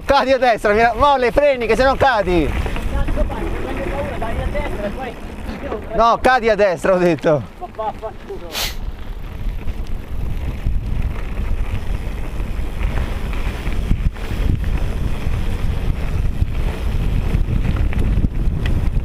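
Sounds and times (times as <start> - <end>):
wind rushing over microphone: 0.0 - 19.0
tyres crunching over gravel: 0.2 - 18.9
bike knocking on rough ground: 0.6 - 19.0.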